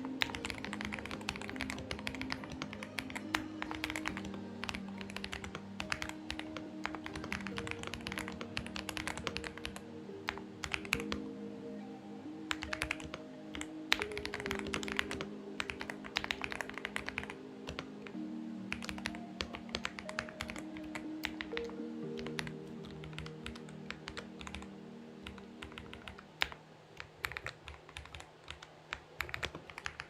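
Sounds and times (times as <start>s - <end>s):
soft background music: 0.0s - 30.0s.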